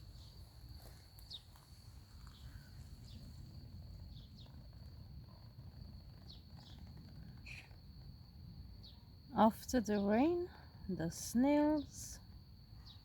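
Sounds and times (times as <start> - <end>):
insect trill: 0.0 - 13.0.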